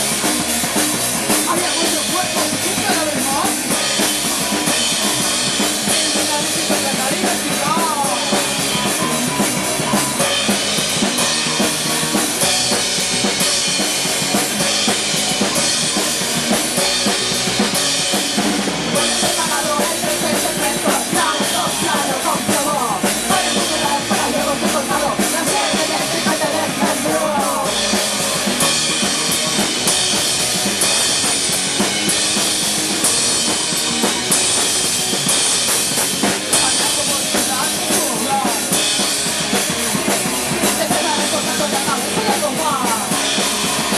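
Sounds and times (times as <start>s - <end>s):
bass drum and snare: 0.0s - 43.9s
punk rock band playing: 0.0s - 43.9s.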